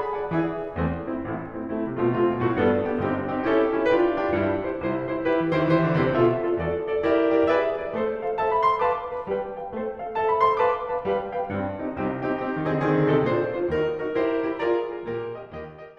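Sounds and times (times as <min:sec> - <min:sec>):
piano music: 0:00.0 - 0:15.9.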